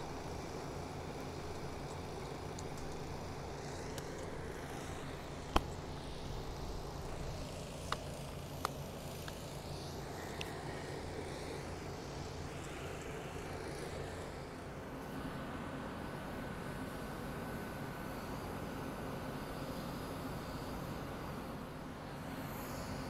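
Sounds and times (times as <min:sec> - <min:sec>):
machinery engine humming: 0:00.0 - 0:23.0.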